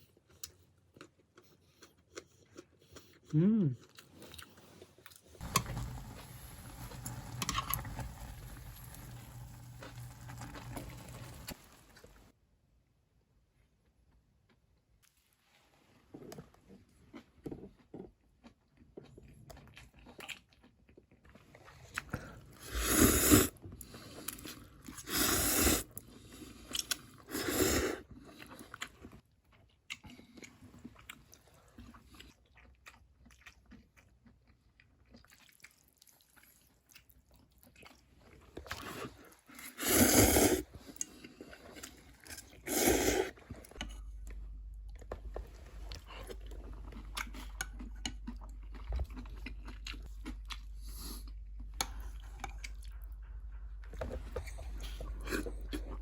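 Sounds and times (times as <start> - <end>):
person chewing: 0.0 - 6.0, 16.2 - 56.0.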